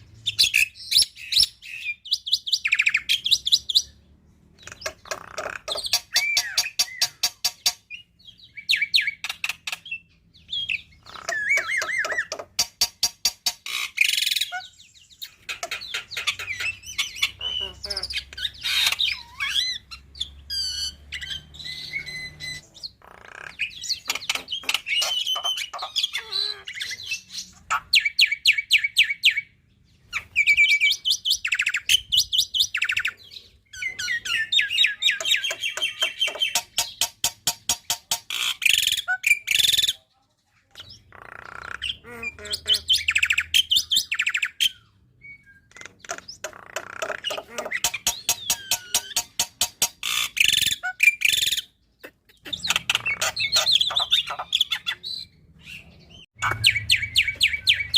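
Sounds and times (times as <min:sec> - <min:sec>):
bird singing rattling song: 0:00.0 - 0:40.0, 0:40.6 - 0:57.9.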